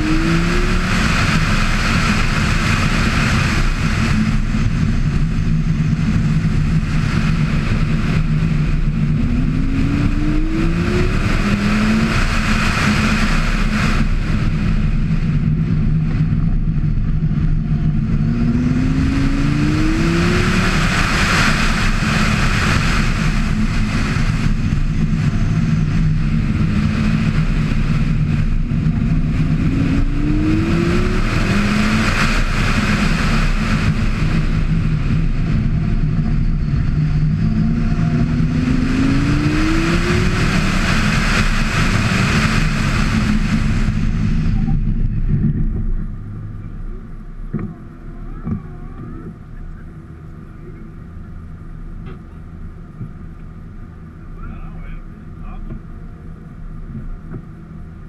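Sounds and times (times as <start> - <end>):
sports car engine accelerating: 0.0 - 58.0
steady rush of noise: 0.0 - 58.0.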